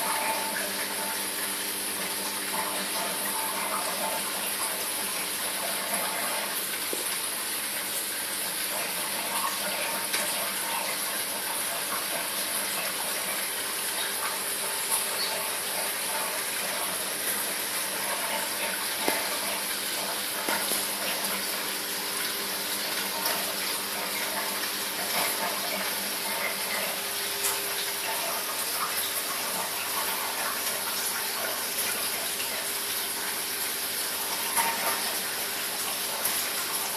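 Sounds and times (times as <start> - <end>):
aquarium water rushing: 0.0 - 36.9
faint pump hum: 0.0 - 36.9.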